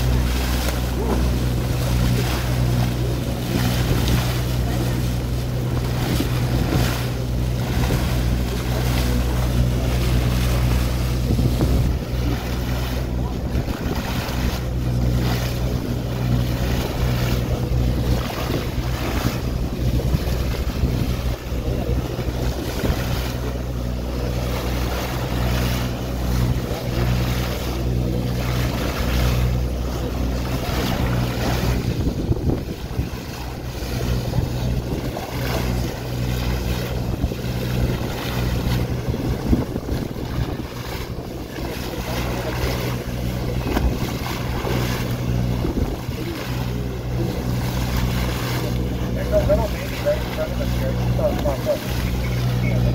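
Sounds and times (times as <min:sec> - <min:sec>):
boat engine hum: 0:00.0 - 0:52.9
bow wave splashing: 0:00.0 - 0:52.9
wind buffeting microphone: 0:00.0 - 0:52.9.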